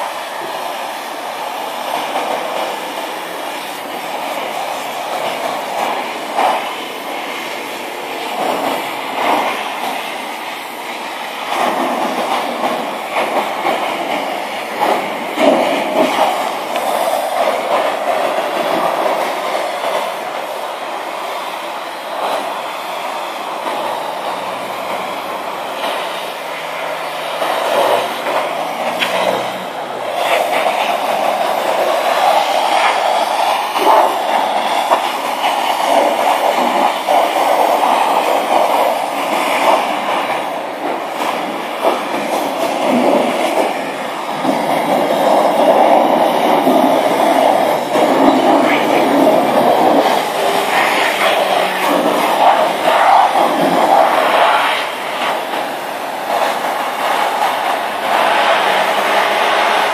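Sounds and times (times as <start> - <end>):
pressure washer spray hissing: 0.0 - 59.9.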